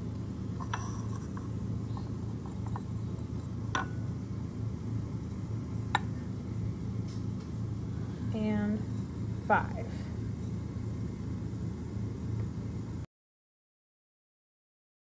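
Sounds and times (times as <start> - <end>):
low room hum: 0.0 - 13.1.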